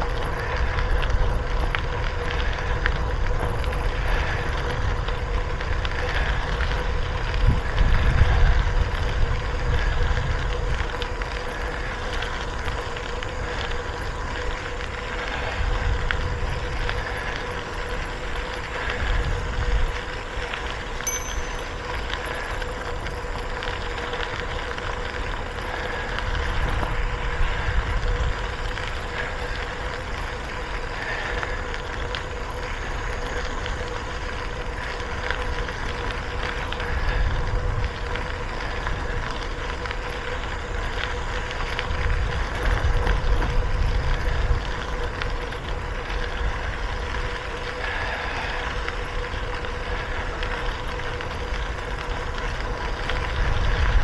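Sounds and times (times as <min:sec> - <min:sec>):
bicycle tyre noise: 0:00.0 - 0:54.0
steady hum: 0:00.0 - 0:54.0
wind rushing over microphone: 0:00.0 - 0:54.0.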